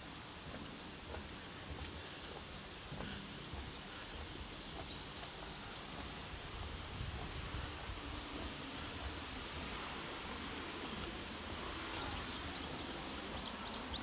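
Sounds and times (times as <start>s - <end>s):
faint high insect hum: 0.0s - 14.0s.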